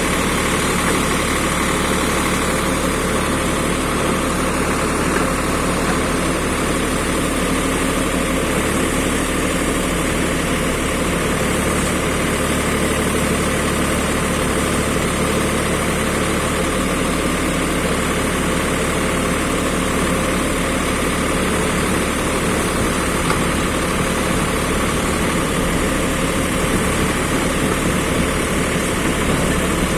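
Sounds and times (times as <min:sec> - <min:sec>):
backhoe engine running: 0:00.0 - 0:29.9.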